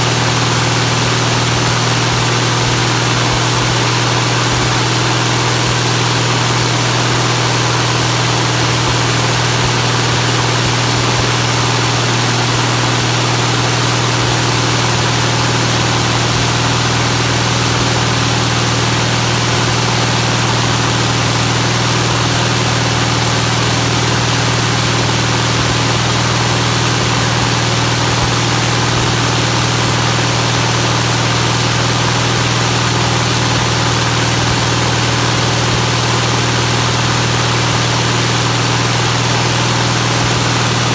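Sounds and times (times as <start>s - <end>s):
aircraft engine drone: 0.0s - 40.9s
propeller wash rushing: 0.0s - 40.9s.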